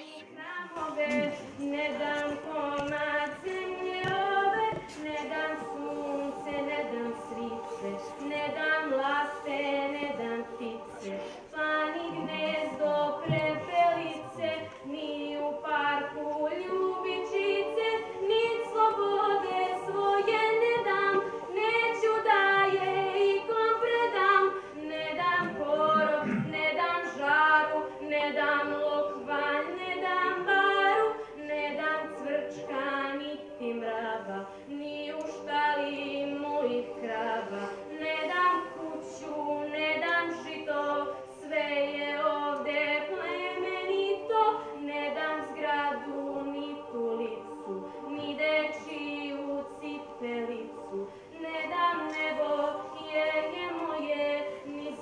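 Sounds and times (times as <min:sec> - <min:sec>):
children's choir holding notes: 0:00.0 - 0:55.0.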